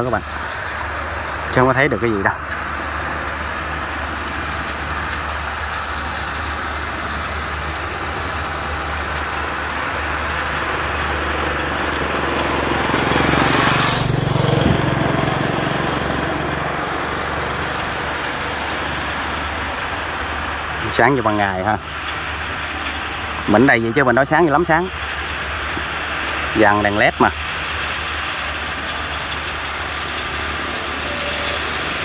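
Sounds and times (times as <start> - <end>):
harvester engine droning: 0.0 - 32.0
hiss: 0.0 - 32.0.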